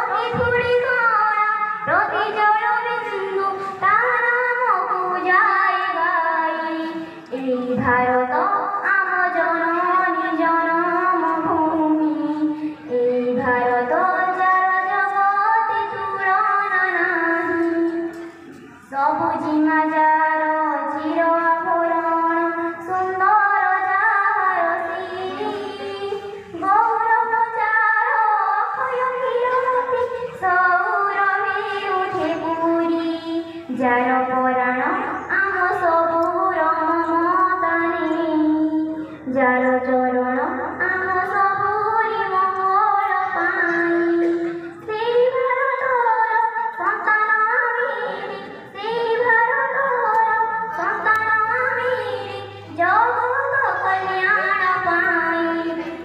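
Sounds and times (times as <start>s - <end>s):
girl singing into microphone: 0.0s - 56.0s.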